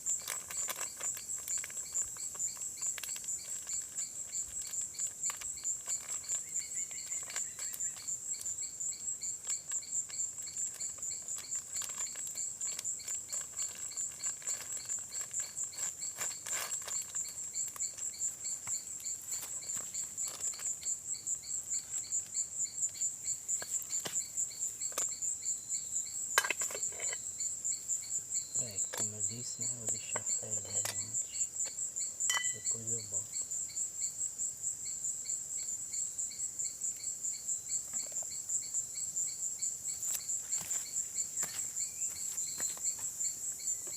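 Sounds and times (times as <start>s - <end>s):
insect chirping: 0.0s - 43.9s.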